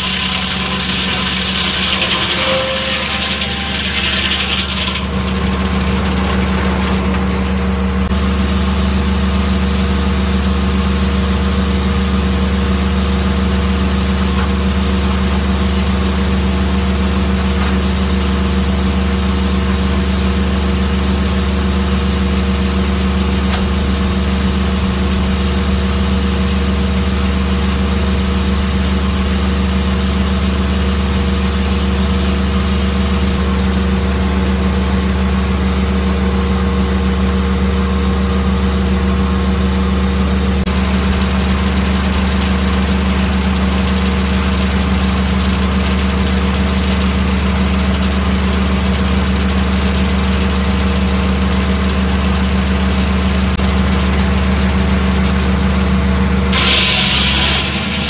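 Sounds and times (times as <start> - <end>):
sawmill engine idling: 0.0 - 58.0.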